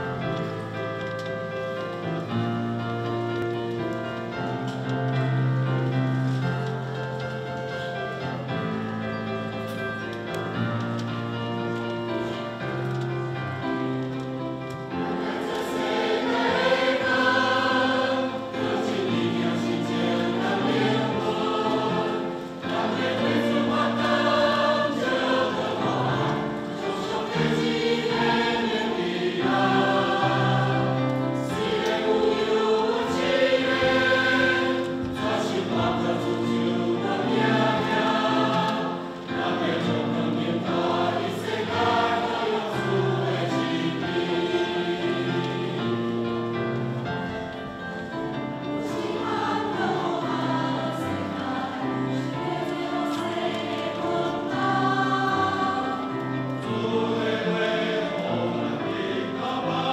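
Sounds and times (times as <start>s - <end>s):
choir singing a hymn: 0.0s - 59.9s
instrumental accompaniment: 0.0s - 59.9s.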